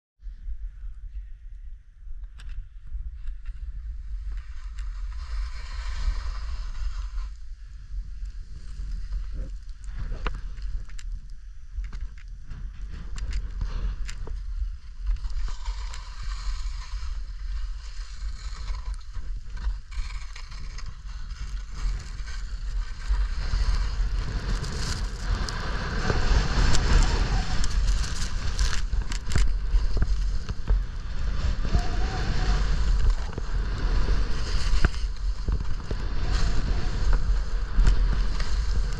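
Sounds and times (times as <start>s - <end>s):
wind buffeting microphone: 0.4s - 38.9s
skis scraping through snow: 3.6s - 10.8s, 12.5s - 38.9s.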